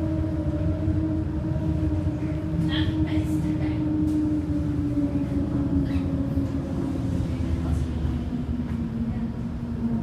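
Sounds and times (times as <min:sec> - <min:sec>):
bus engine rumble and whine: 0:00.0 - 0:10.0.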